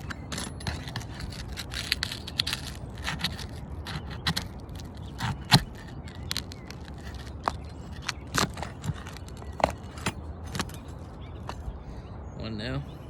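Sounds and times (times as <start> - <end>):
metal tool scraping shingles: 0.0 - 11.7.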